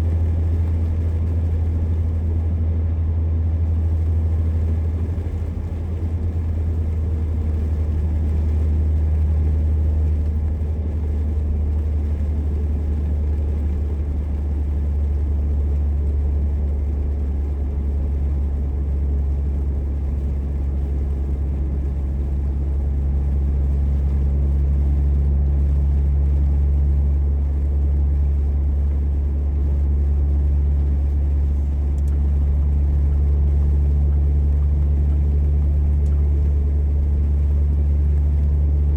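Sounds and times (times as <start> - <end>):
car engine and road noise: 0.0 - 38.9
faint steady hum: 0.0 - 38.9.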